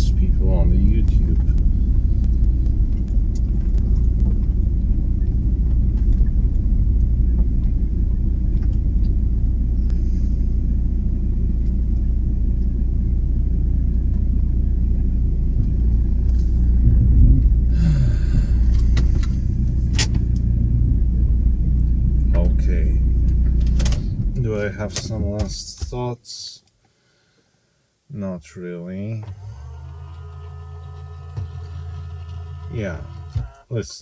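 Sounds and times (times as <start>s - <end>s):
car cabin rumble: 0.0s - 26.1s, 29.2s - 34.0s.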